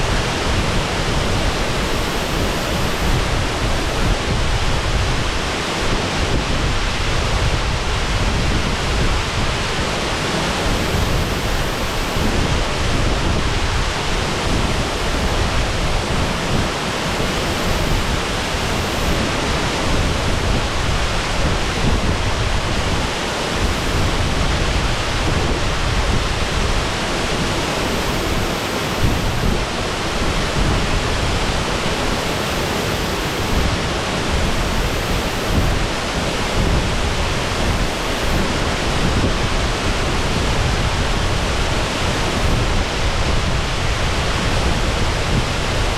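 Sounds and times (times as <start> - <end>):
waterfall rushing: 0.0 - 6.0, 9.6 - 13.0, 13.6 - 42.6.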